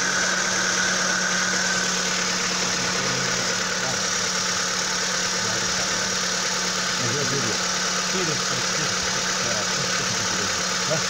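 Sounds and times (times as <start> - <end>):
car engine idling with ticking: 0.0 - 11.0.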